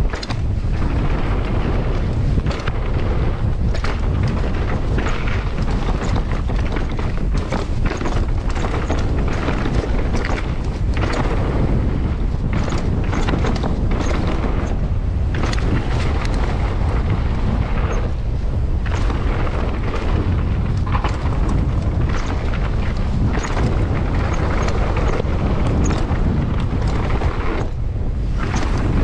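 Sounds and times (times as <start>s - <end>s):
bike rattling clicks and knocks: 0.0s - 29.0s
tyres over dirt and stones: 0.0s - 29.0s
wind buffeting microphone: 0.0s - 29.0s.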